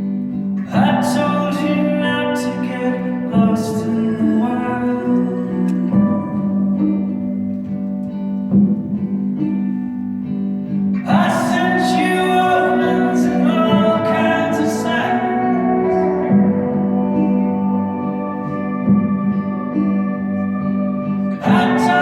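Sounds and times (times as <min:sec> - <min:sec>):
guitars: 0:00.0 - 0:22.0
sustained low band tones: 0:00.0 - 0:22.0
person singing: 0:00.6 - 0:07.8, 0:11.0 - 0:22.0.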